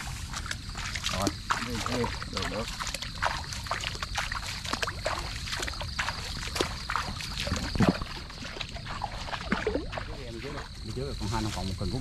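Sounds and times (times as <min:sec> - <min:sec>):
brushing through wet grass: 0:00.0 - 0:12.0
footsteps sloshing through water: 0:00.0 - 0:12.0.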